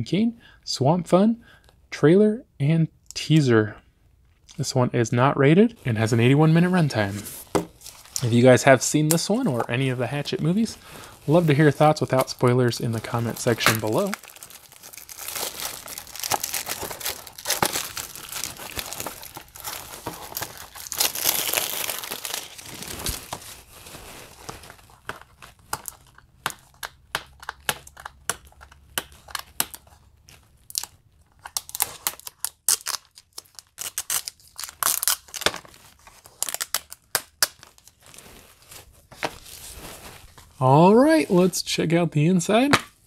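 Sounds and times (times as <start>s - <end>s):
plastic shrink wrap crinkling: 5.9s - 41.5s.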